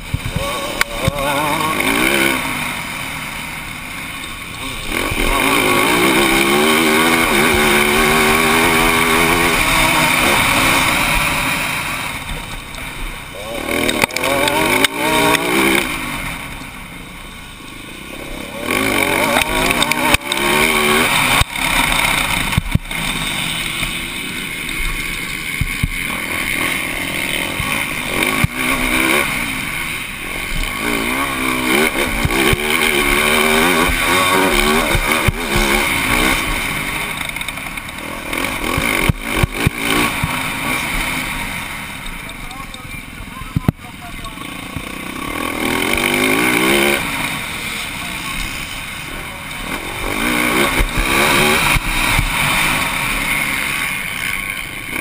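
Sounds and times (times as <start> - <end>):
constant rush: 0.0 - 55.0
motocross bike engine revving: 0.0 - 55.0.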